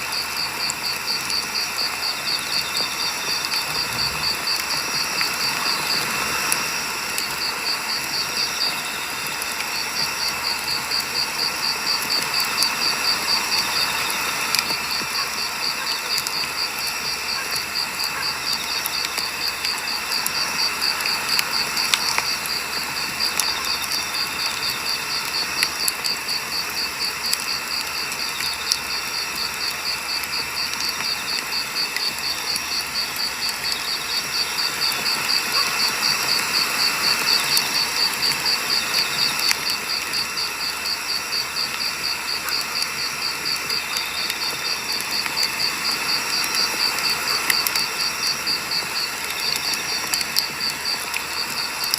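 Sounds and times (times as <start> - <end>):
campfire crackling and popping: 0.0 - 51.9
cricket chirping: 0.0 - 51.9.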